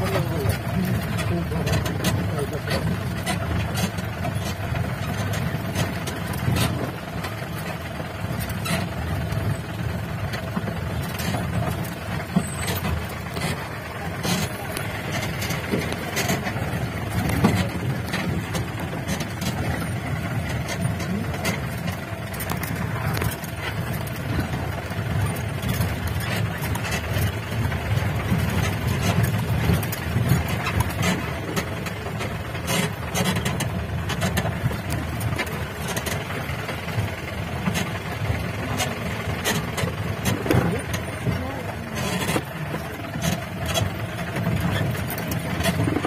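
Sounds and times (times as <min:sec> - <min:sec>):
vehicle engine running under load: 0:00.0 - 0:46.0
vehicle knocks and rattles: 0:00.0 - 0:46.0.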